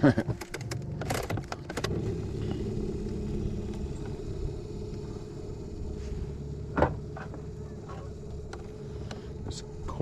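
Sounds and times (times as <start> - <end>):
electric motor humming: 0.7 - 10.0.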